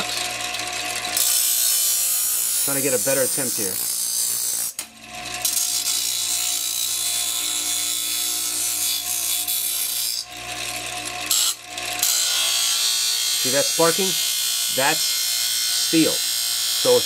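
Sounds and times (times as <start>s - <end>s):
grinder wheel grinding steel: 0.0s - 17.0s.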